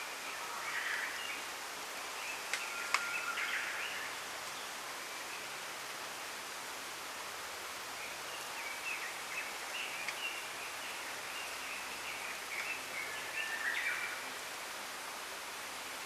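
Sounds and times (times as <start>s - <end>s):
small songbirds chirping: 0.0s - 6.2s, 7.6s - 14.7s
wind rustling bamboo leaves: 0.0s - 16.0s.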